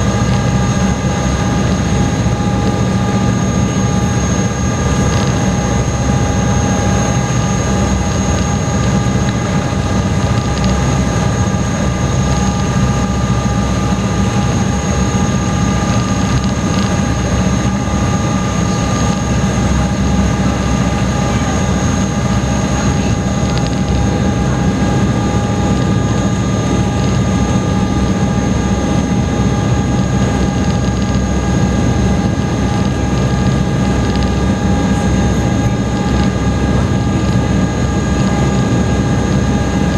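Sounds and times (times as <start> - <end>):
boat engine rumble: 0.0 - 39.9
constant whining tones: 0.0 - 39.9.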